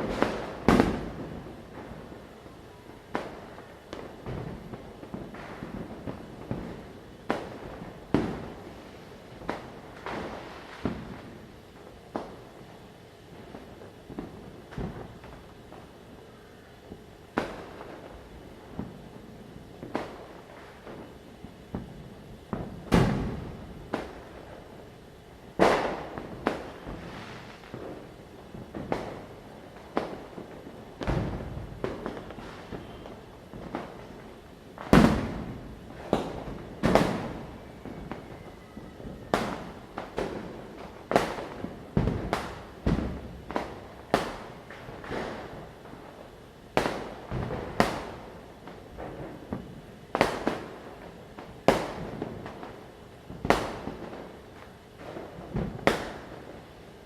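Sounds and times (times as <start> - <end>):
firecrackers bursting: 0.0 - 57.0.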